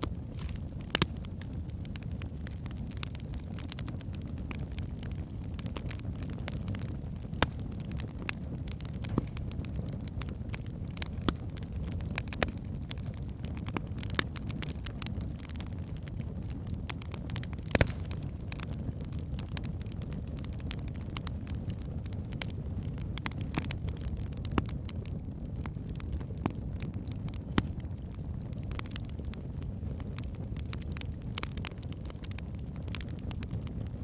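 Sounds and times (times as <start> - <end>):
logs crackling and popping: 0.0 - 34.0
rumble of flames: 0.0 - 34.0.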